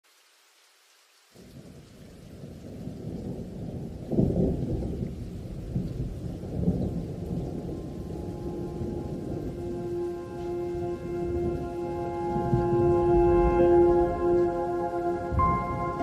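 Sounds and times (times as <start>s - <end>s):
rolling thunder: 2.4s - 16.0s
thunder clap: 3.0s - 16.0s.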